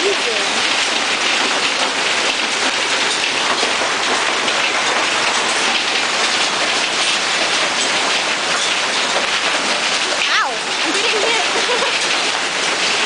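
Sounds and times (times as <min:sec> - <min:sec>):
hail pelting down: 0:00.0 - 0:13.0
rain: 0:00.0 - 0:13.0.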